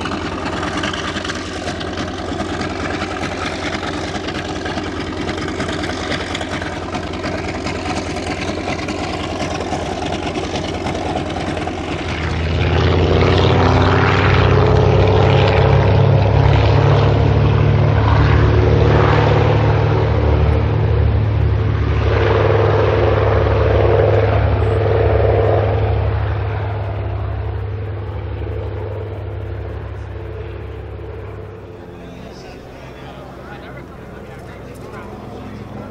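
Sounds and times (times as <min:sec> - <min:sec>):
radial aircraft engine: 0:00.0 - 0:35.9.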